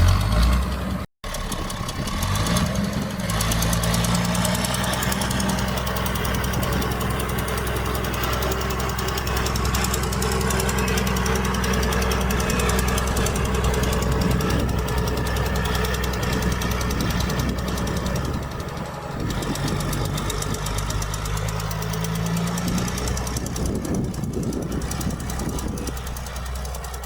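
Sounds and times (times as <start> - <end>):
heavy diesel engine clattering: 0.0 - 27.0.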